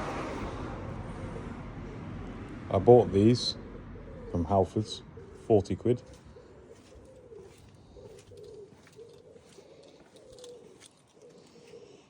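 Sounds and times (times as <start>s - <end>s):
pigeon cooing: 0.0s - 12.0s.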